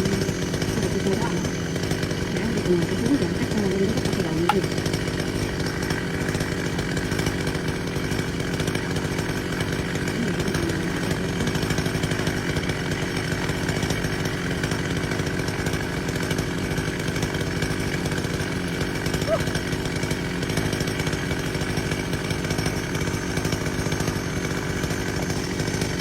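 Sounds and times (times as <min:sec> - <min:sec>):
chainsaw cutting tree: 0:00.0 - 0:26.0.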